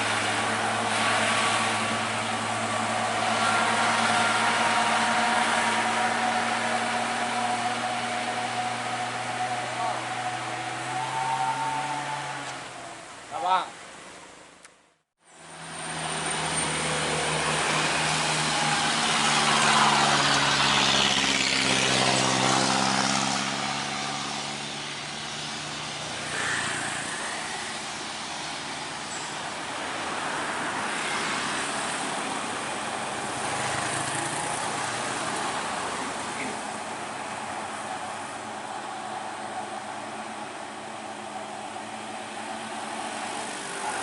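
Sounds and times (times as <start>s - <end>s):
truck engine passing: 0.0s - 14.0s, 15.3s - 44.0s
road noise: 0.0s - 44.0s.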